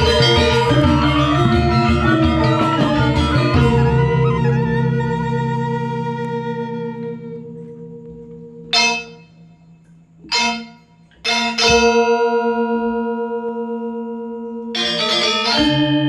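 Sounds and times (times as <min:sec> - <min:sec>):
gamelan metallophones ringing: 0:00.0 - 0:06.7, 0:07.4 - 0:13.4, 0:14.8 - 0:16.0.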